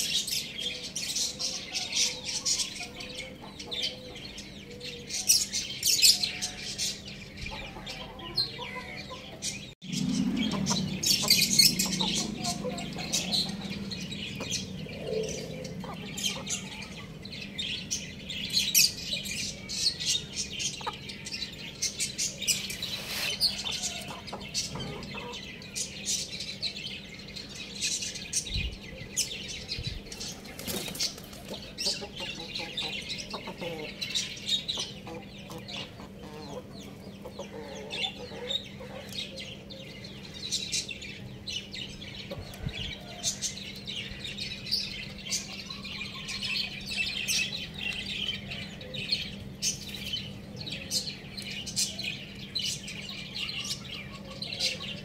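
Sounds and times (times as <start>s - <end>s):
roosters clucking: 0.0s - 55.0s
small birds chirping: 0.0s - 55.0s.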